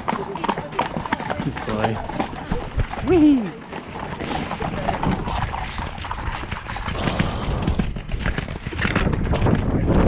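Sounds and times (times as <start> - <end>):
horse hoofbeats on muddy grass: 0.0 - 10.0.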